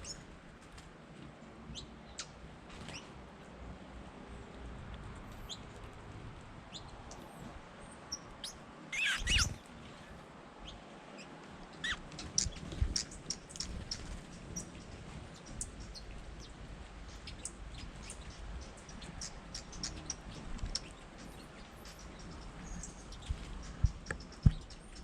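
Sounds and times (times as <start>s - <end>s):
small birds chip calls: 0.0s - 0.3s, 1.7s - 3.1s, 5.1s - 25.0s.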